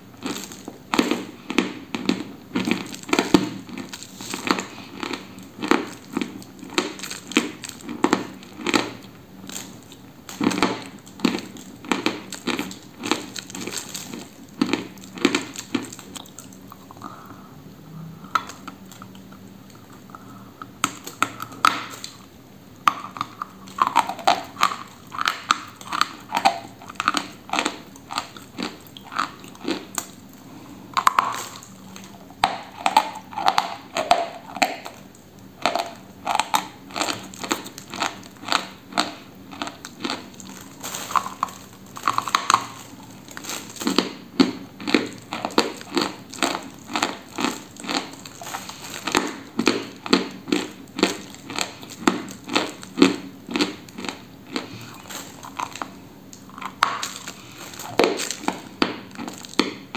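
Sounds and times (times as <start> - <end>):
chewing crunchy chalk: 0.2 - 17.3, 23.0 - 59.9.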